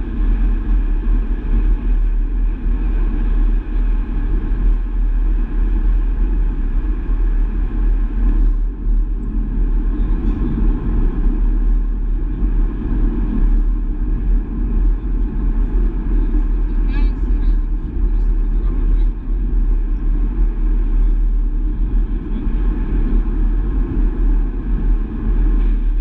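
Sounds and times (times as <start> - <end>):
car driving low rumble: 0.0 - 26.0.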